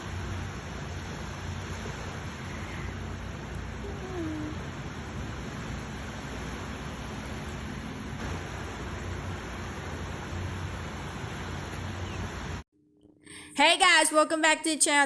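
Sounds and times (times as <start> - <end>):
steady background hiss: 0.0 - 12.6.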